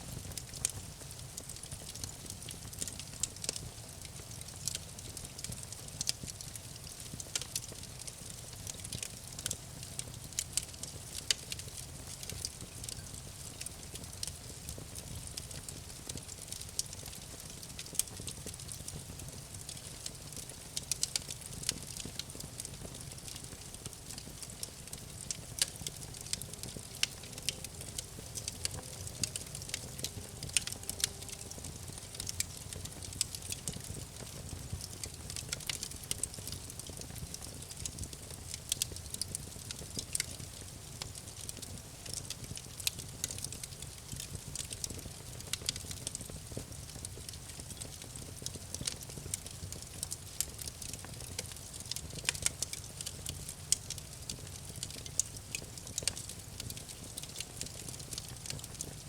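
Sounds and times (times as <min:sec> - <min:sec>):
campfire crackling and popping: 0:00.1 - 0:59.0.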